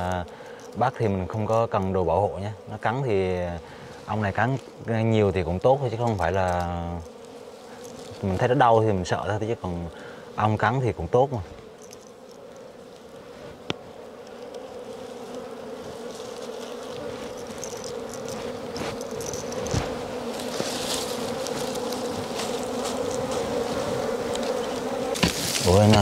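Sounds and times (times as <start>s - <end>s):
bees buzzing: 0.0s - 26.0s
dry straw rustling: 3.4s - 9.2s, 10.4s - 26.0s.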